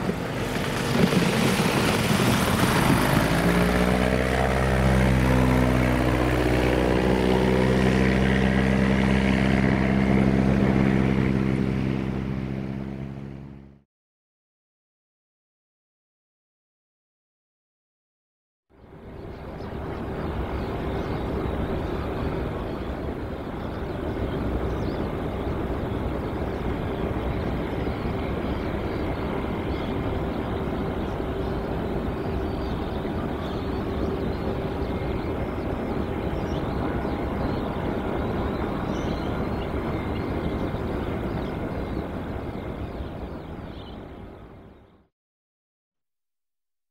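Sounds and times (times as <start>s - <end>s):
distant propeller aircraft engine: 0.0s - 13.8s, 18.7s - 45.1s
outdoor noise: 0.0s - 13.8s, 18.7s - 45.1s.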